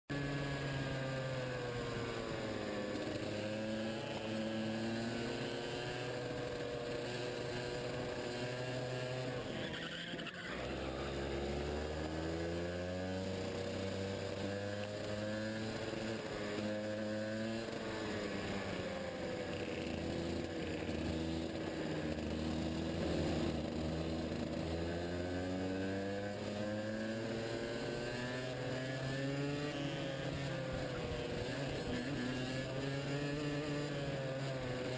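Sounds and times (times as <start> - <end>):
kart engine revving: 0.1 - 34.9.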